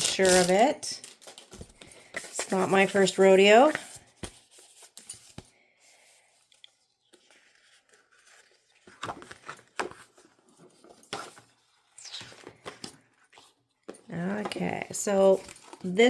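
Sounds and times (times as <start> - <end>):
paper and packaging rustling: 0.0 - 16.0.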